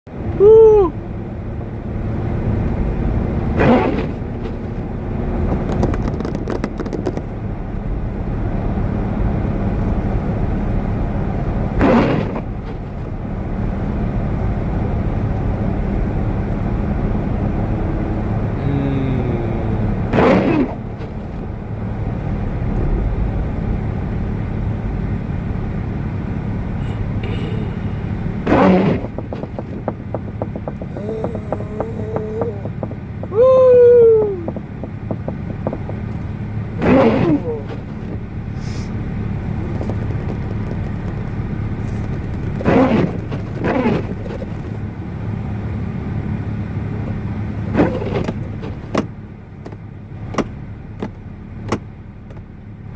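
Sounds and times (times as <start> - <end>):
car engine rumble: 0.0 - 52.9
road noise: 0.0 - 52.9.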